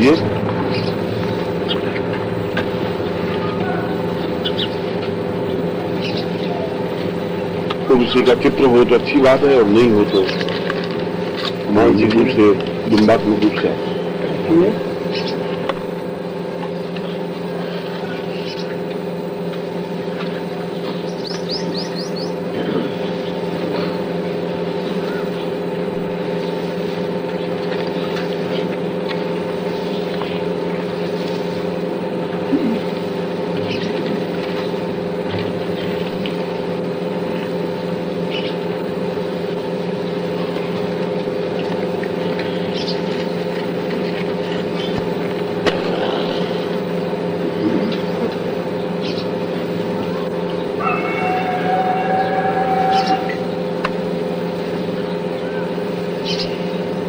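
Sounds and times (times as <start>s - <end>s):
steady machine hum: 0.0s - 57.0s.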